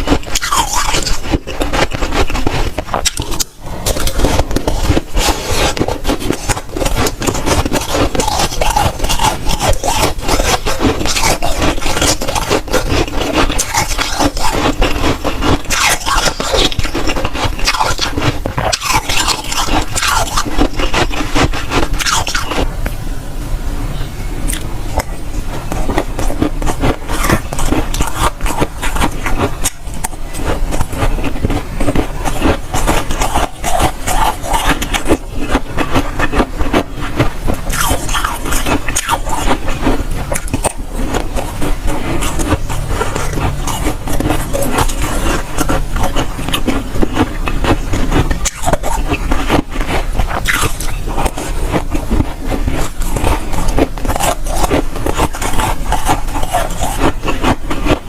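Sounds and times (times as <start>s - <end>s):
frost being chewed crunching: 0.0s - 23.0s, 24.4s - 58.0s.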